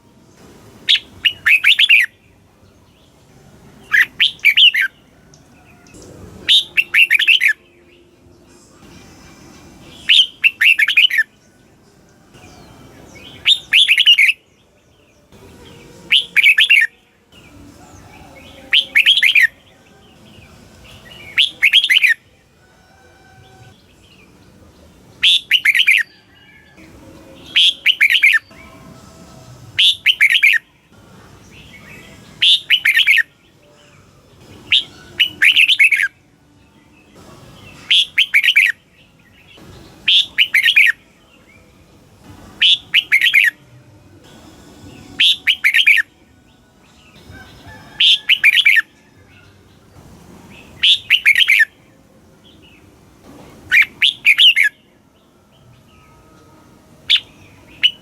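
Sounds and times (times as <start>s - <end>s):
bird singing warbling phrases: 0.9s - 3.2s, 3.8s - 8.2s, 9.9s - 11.5s, 12.3s - 22.4s, 23.6s - 28.8s, 29.8s - 36.2s, 36.9s - 41.7s, 42.5s - 43.6s, 44.9s - 49.6s, 50.6s - 52.9s, 53.7s - 56.3s, 57.0s - 58.0s.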